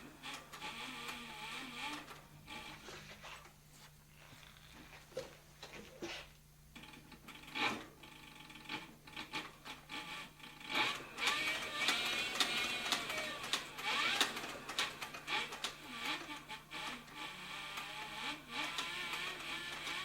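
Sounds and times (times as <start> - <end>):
stitching machine sewing leather: 0.1 - 3.5, 6.8 - 20.0.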